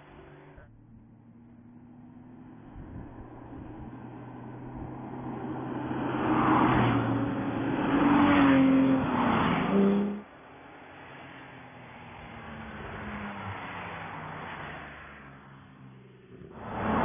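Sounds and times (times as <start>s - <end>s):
cars passing under acceleration: 0.0s - 17.0s.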